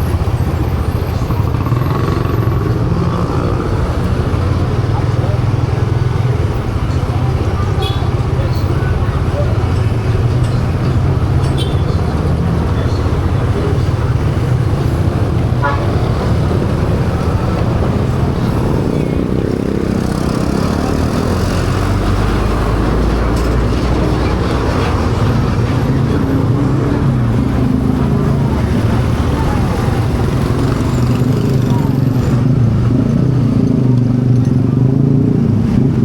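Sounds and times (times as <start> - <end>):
road noise: 0.0 - 36.0.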